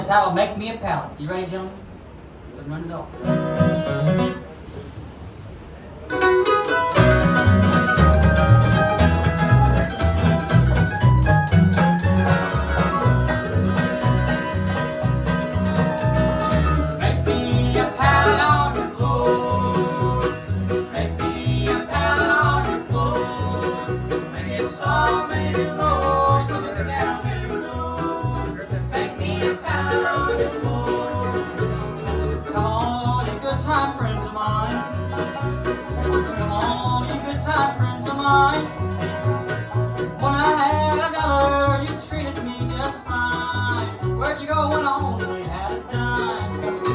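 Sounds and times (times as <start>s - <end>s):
guitar picking: 3.2s - 4.6s, 6.1s - 46.9s
banjo picking: 6.1s - 46.9s
fiddle held notes: 6.1s - 46.9s
bass beat: 7.0s - 46.9s.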